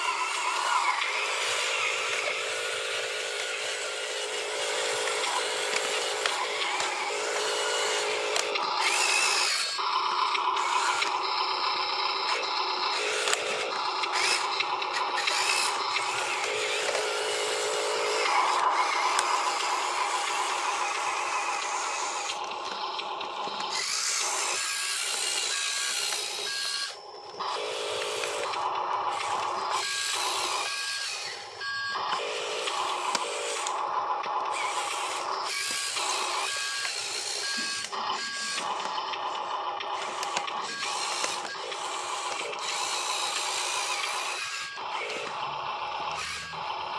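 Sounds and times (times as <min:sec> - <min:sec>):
small electric motors whining: 0:00.0 - 0:46.9.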